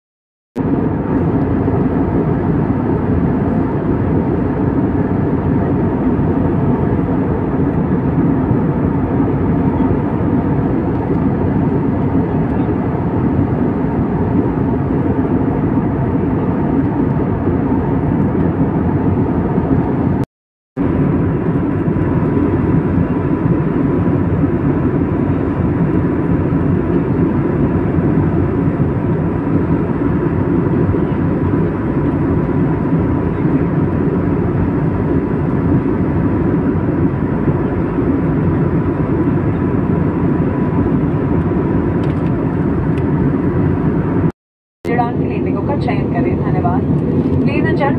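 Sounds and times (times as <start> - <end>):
faint engine whine: 0.6 - 47.9
jet airliner cabin rumble: 0.6 - 47.9.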